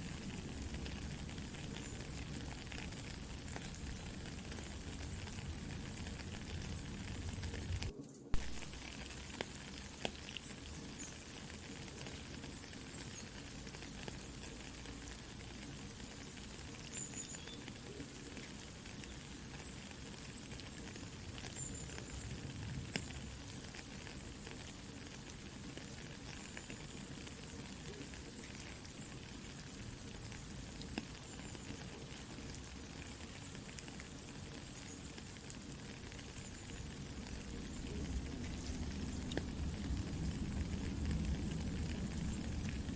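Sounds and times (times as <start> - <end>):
campfire crackling and popping: 0.0 - 42.9
soft rain falling: 0.0 - 42.9.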